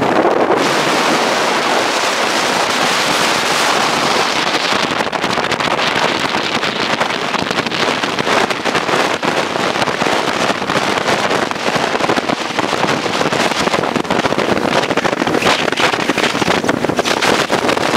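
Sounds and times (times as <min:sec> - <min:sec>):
water slapping boat hull: 0:00.0 - 0:17.9
wind buffeting microphone: 0:00.0 - 0:17.9.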